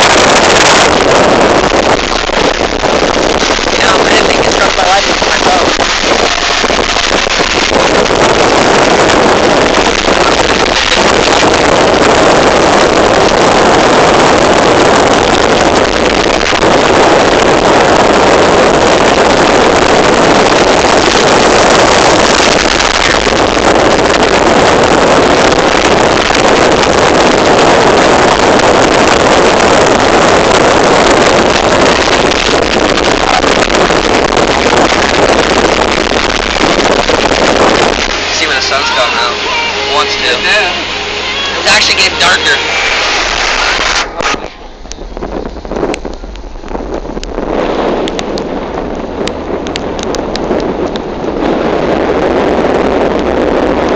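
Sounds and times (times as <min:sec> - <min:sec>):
rain and wind hitting car: 0:00.0 - 0:53.9.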